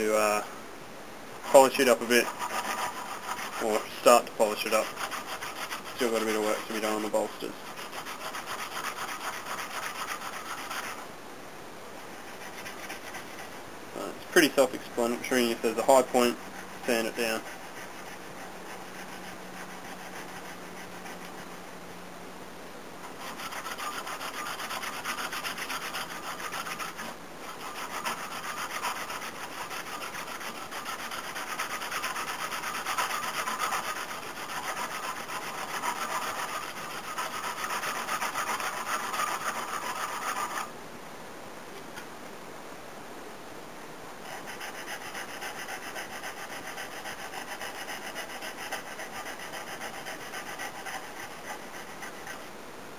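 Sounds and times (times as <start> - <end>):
sandpaper rubbing on wood: 1.4 - 11.0, 12.2 - 21.6, 23.1 - 40.7, 44.3 - 52.5.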